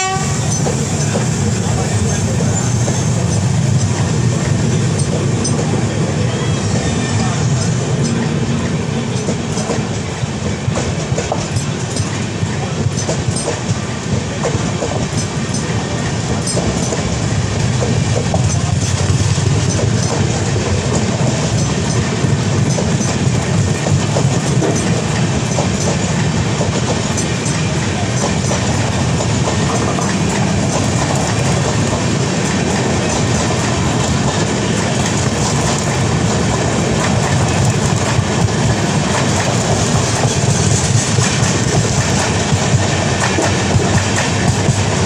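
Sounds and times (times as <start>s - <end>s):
clickety-clack over rail joints: 0.0s - 45.0s
train wheels rumbling on rails: 0.0s - 45.0s.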